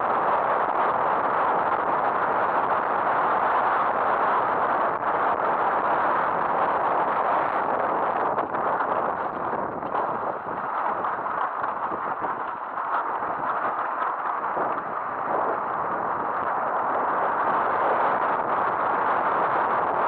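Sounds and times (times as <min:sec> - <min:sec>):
wind on camera: 0:00.0 - 0:20.0.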